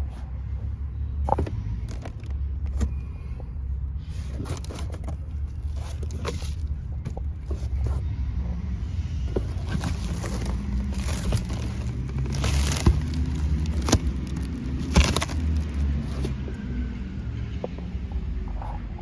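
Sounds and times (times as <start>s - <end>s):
truck engine idling: 0.4s - 19.0s.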